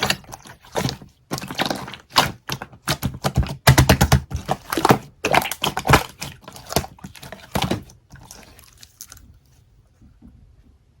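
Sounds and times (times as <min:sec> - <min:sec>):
jelly being chewed wetly: 0:00.0 - 0:09.6.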